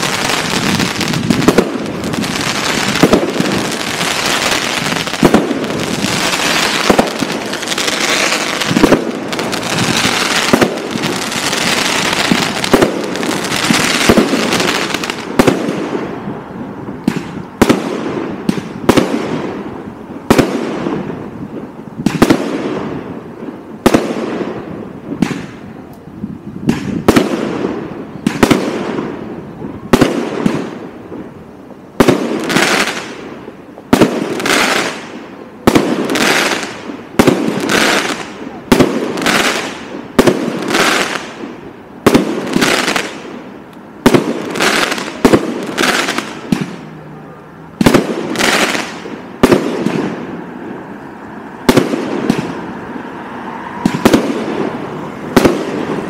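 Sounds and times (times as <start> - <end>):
fireworks bursts: 0.0 - 25.7, 26.6 - 50.5, 51.1 - 53.0, 53.7 - 56.0
fireworks crackling: 0.0 - 56.0.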